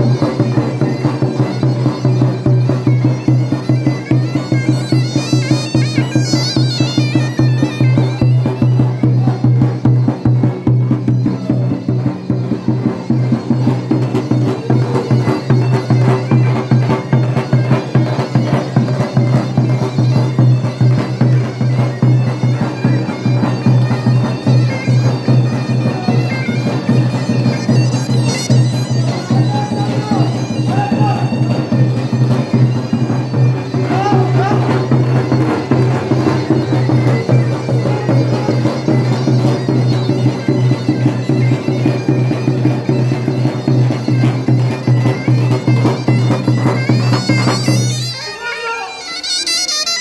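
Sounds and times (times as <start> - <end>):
reed pipe playing fast melody: 0.0 - 50.0.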